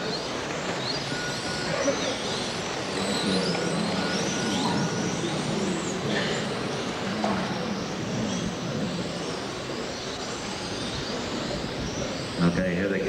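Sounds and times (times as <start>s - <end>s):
electric motors whining: 0.0s - 13.0s
racing hall noise: 0.0s - 13.0s.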